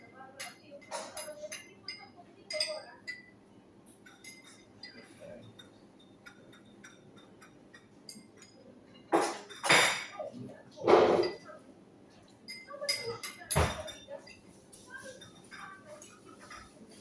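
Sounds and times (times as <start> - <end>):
cutlery clinking on plates: 0.0 - 17.0.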